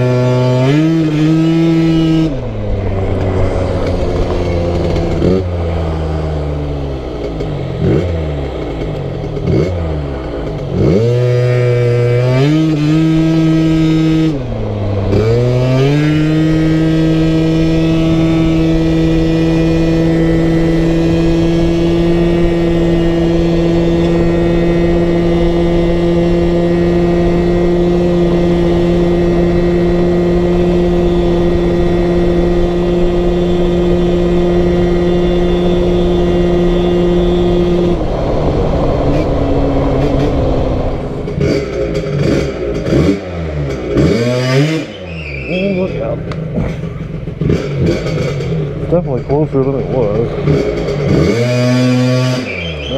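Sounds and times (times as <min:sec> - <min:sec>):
scooter engine revving: 0:00.0 - 0:52.9.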